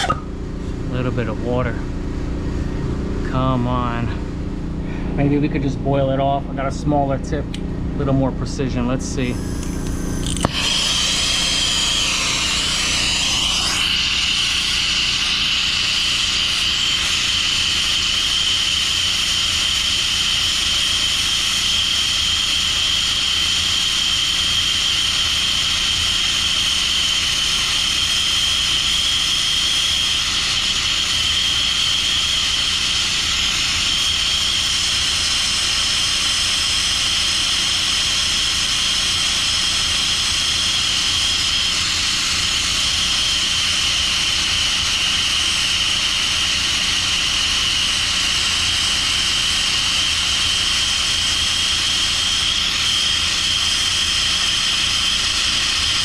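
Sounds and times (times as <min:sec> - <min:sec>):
gas torch hissing: 0:00.0 - 0:00.2, 0:09.1 - 0:56.0.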